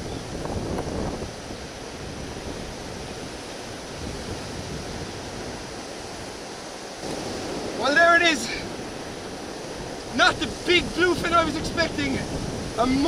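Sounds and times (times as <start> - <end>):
sea waves washing against rocks: 0.0 - 13.0
wind buffeting microphone: 0.0 - 13.0.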